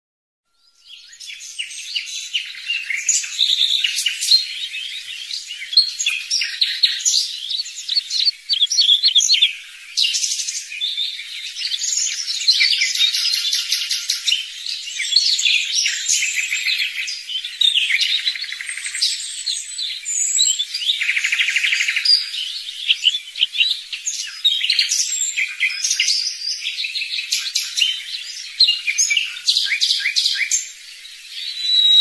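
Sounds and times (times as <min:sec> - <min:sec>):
songbirds chirping and trilling: 0:00.5 - 0:32.0.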